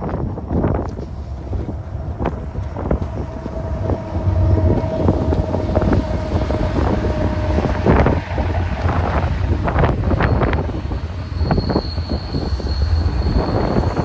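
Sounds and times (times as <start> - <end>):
freight train rumble: 0.0 - 14.0
train knocks: 0.0 - 14.0
wind buffeting microphone: 0.0 - 14.0
steady whine: 0.1 - 14.0.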